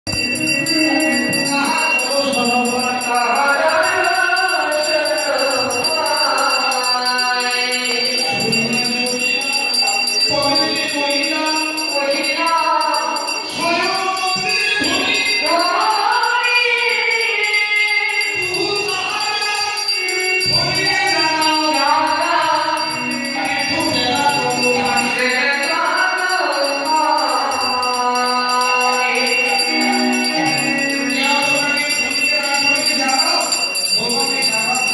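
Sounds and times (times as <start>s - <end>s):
jingling percussion: 0.0s - 34.9s
voices singing together: 0.1s - 34.9s.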